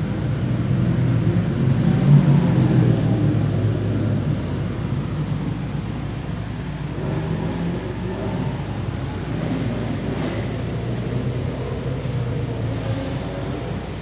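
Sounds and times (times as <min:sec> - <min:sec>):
distant racing car engines: 0:00.0 - 0:14.0.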